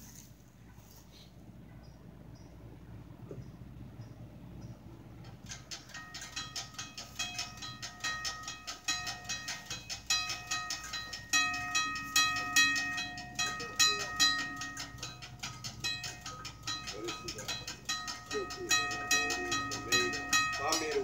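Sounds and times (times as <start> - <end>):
railroad crossing bell ringing: 4.0 - 21.0.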